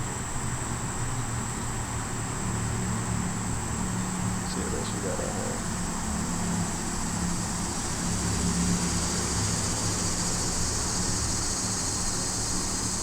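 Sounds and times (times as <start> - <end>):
high insect-like hiss: 0.2 - 13.0
low engine-like hum: 0.2 - 13.0.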